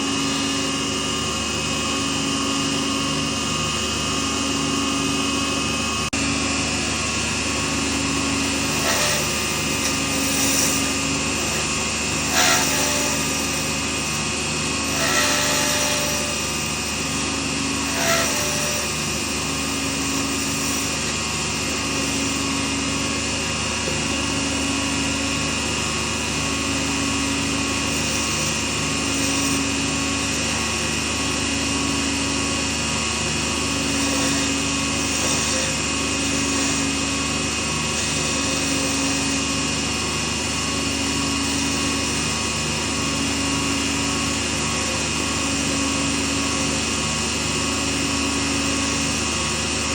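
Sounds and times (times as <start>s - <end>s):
small lathe running: 0.0s - 49.9s.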